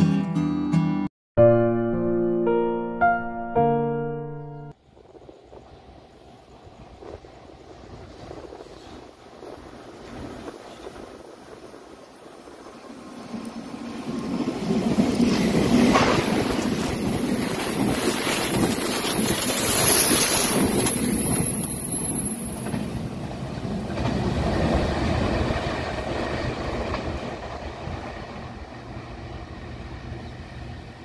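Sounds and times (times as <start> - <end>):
high train whine: 4.8 - 31.0
train wheels rumbling on rails: 4.8 - 31.0.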